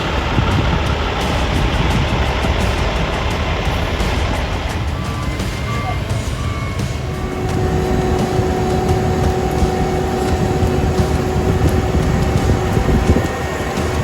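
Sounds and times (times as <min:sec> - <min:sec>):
steady whine: 0:00.0 - 0:14.0
truck engine rumbling: 0:00.0 - 0:14.0.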